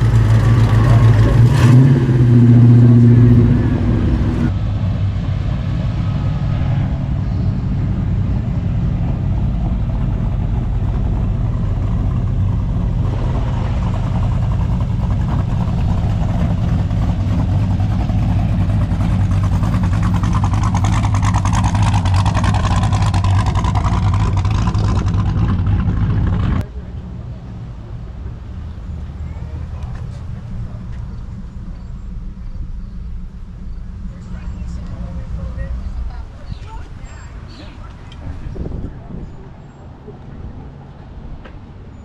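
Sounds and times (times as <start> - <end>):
car engine running: 0.0 - 41.4.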